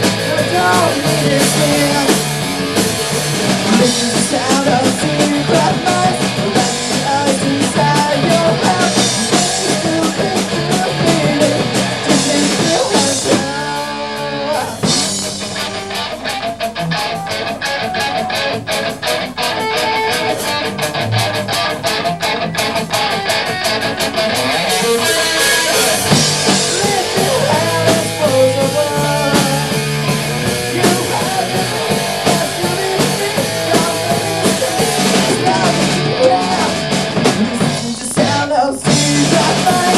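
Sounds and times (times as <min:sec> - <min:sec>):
live punk rock band: 0:00.0 - 0:39.9.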